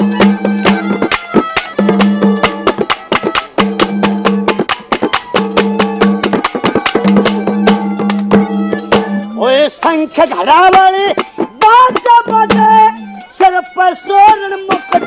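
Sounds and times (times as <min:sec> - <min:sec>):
fast percussion strokes: 0:00.0 - 0:15.0.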